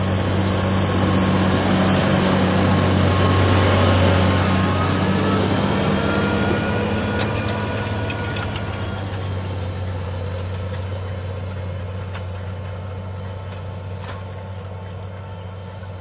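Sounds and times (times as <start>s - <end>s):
low mechanical hum: 0.0s - 16.0s
thin high whine: 0.0s - 16.0s.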